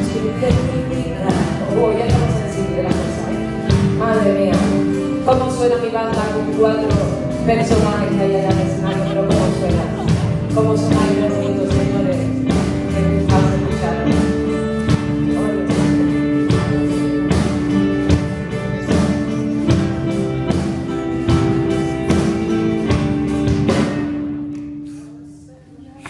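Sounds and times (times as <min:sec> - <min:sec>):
steady drum beat: 0:00.0 - 0:24.4
live pop band playing: 0:00.0 - 0:25.1.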